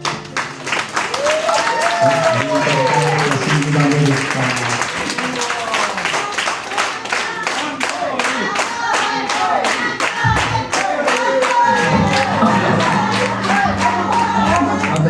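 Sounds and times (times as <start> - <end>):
audience clapping: 0.0 - 15.0
voices: 1.8 - 15.0.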